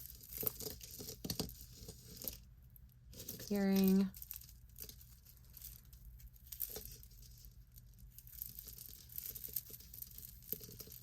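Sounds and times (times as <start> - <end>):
metal jewelry rustling and clicking: 0.0 - 2.5, 3.1 - 11.0.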